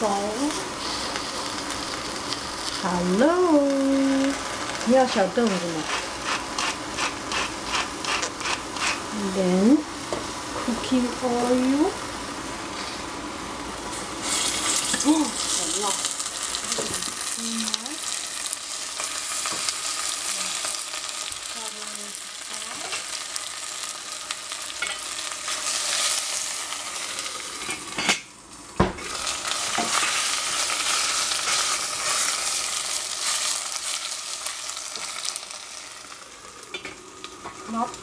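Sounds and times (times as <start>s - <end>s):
vegetables sizzling in hot oil: 0.0s - 38.0s.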